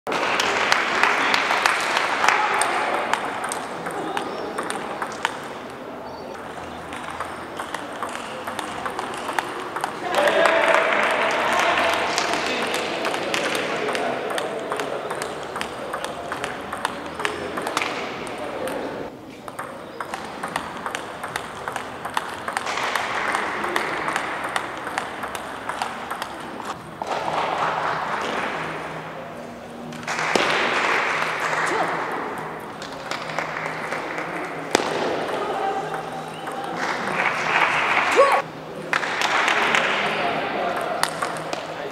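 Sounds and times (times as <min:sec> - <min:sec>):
noisy hall ambience: 0:00.1 - 0:41.9
table tennis ball clicking: 0:01.3 - 0:27.1, 0:29.8 - 0:37.5, 0:40.7 - 0:41.7.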